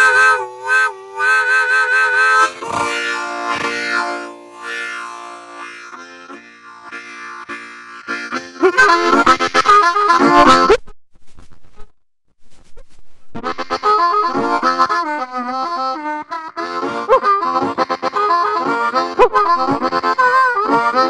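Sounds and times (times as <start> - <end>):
harmonica chords: 0.0 - 10.7, 13.4 - 21.0.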